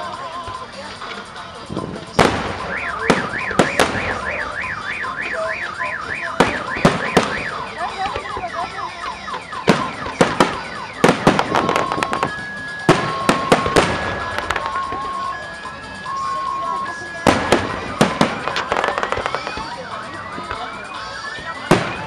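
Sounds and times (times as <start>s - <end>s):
fireworks bursting: 0.0s - 22.0s
car alarm: 2.2s - 22.0s.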